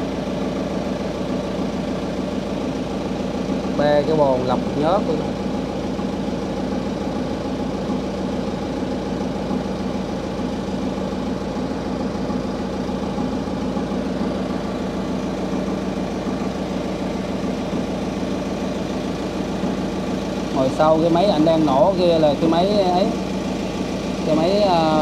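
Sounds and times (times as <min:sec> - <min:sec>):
generator engine humming: 0:00.0 - 0:25.0.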